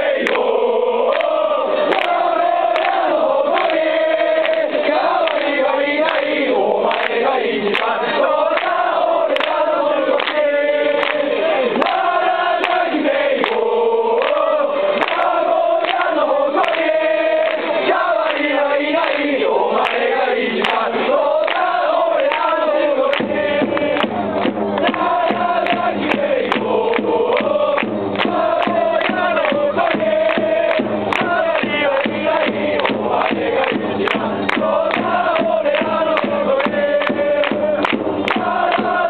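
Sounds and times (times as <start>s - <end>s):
crowd chanting in unison: 0.0s - 39.0s.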